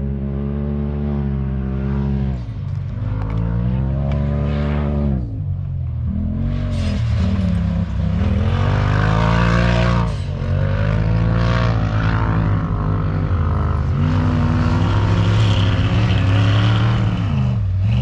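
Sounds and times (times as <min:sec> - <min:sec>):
race vehicle engine revving: 0:00.0 - 0:18.0.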